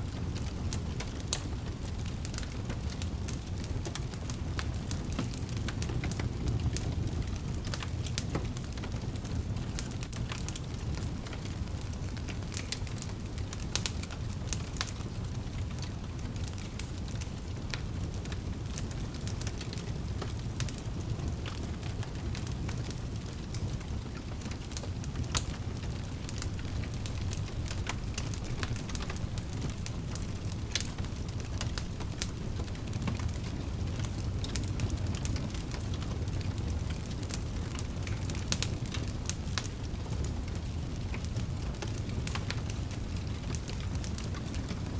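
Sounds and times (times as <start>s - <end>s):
fire popping and crackling: 0.0s - 44.9s
low rumble of flames: 0.0s - 44.9s.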